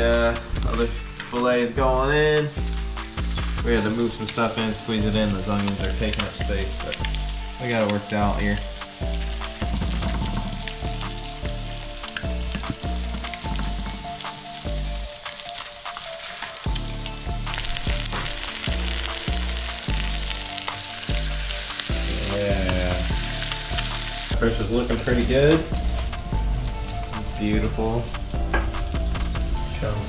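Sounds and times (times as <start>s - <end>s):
fish and onions sizzling in pan: 0.0s - 30.0s.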